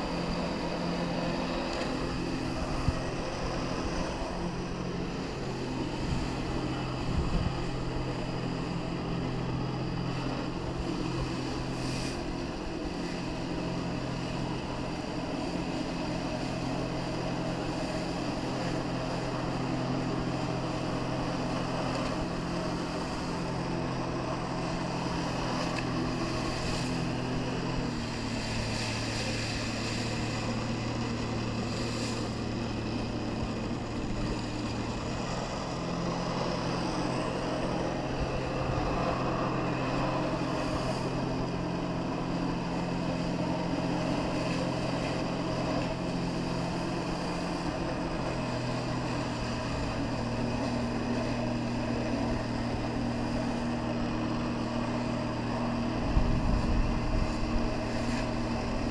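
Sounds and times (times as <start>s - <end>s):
watercraft engine running: 0.0s - 58.9s.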